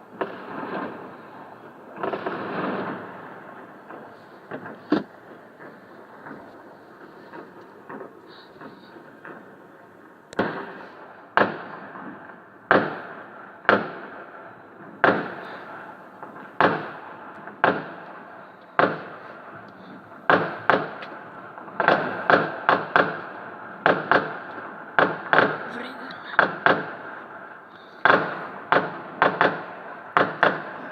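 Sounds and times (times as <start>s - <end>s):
firework explosions: 0.0s - 30.9s.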